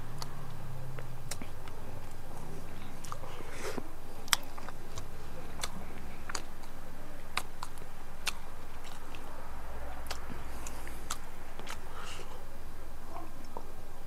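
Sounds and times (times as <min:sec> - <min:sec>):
steady low hum: 0:00.0 - 0:14.0
person chewing: 0:00.1 - 0:12.5.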